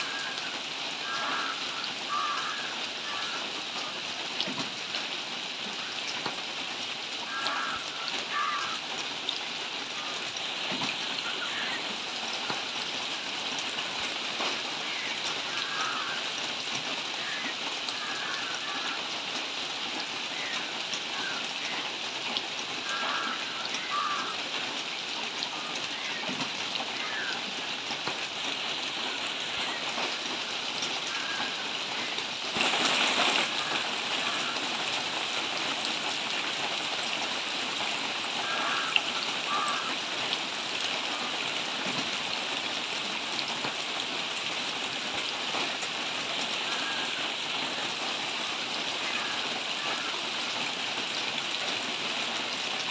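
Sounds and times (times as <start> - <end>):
rain falling on foliage: 0.0 - 52.9.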